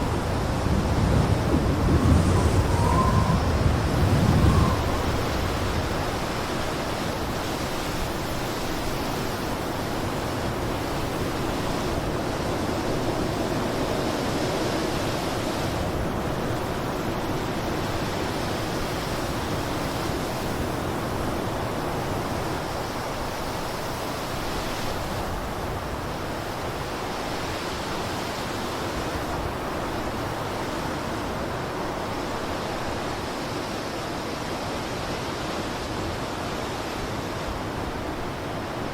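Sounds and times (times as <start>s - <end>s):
blizzard wind blowing: 0.0s - 38.9s.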